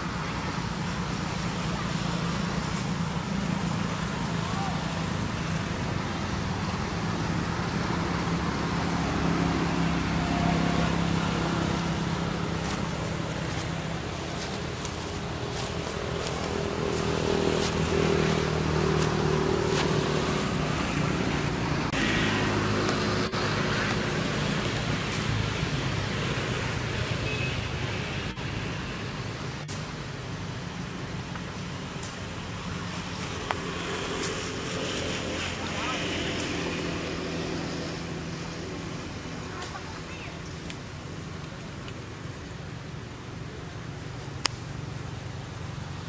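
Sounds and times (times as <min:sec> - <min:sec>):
passing vehicles humming: 0:00.0 - 0:46.0.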